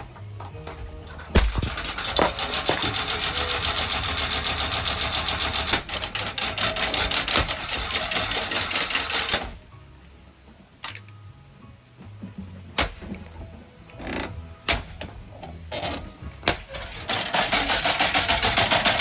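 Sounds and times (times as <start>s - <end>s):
ceiling fan clattering: 0.0s - 19.0s.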